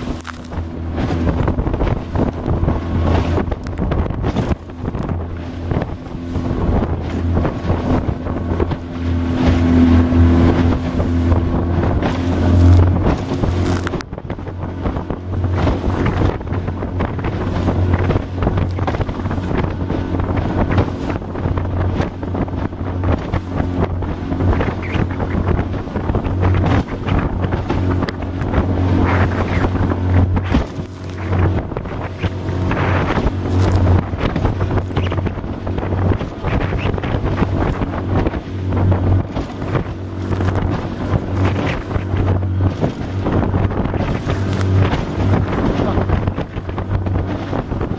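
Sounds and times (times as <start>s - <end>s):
hull pounding through waves: 0.0s - 47.9s
motorboat engine running: 0.0s - 47.9s
water slapping: 0.0s - 47.9s
wind buffeting microphone: 0.0s - 47.9s.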